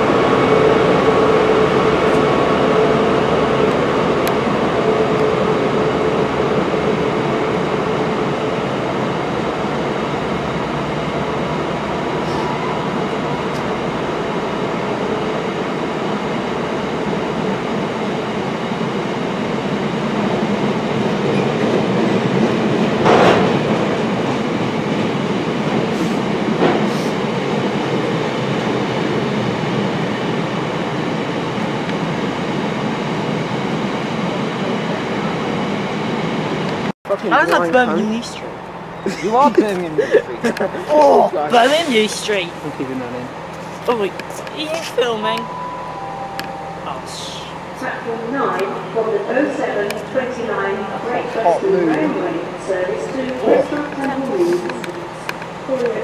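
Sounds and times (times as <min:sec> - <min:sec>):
diesel train engine drone: 0:00.0 - 0:56.0.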